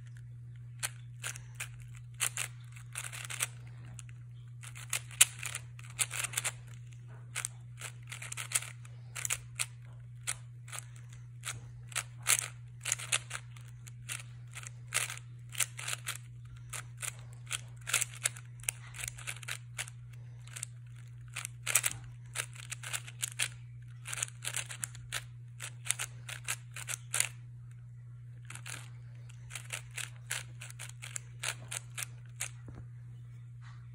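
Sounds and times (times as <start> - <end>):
steady low hum: 0.0 - 33.9
puzzle cube clicking: 0.8 - 27.4, 28.4 - 32.6.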